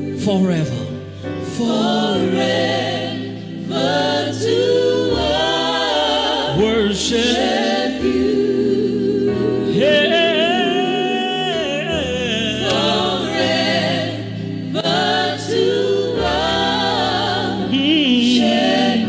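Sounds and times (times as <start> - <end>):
gospel choir singing wordless notes: 0.0 - 19.0.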